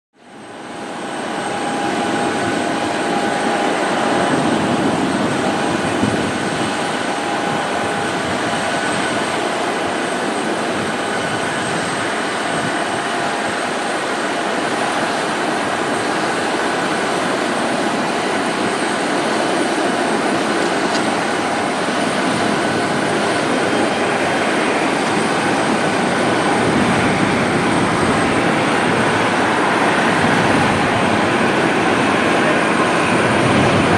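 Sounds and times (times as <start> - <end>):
high-pitched engine whine: 0.2 - 33.9
jet engines running: 0.2 - 33.9.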